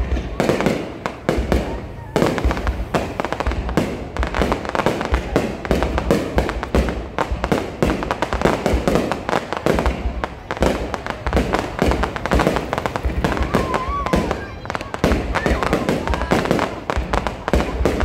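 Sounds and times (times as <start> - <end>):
deep firework booms: 0.0 - 18.0
firework bangs and crackles: 0.0 - 18.0.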